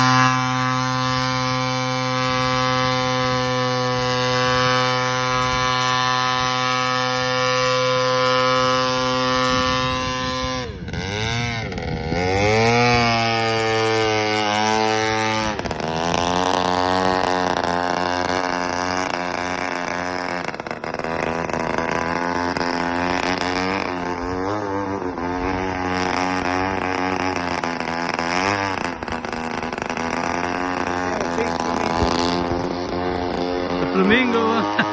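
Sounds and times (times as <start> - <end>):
model airboat motor and propeller: 0.0 - 34.9.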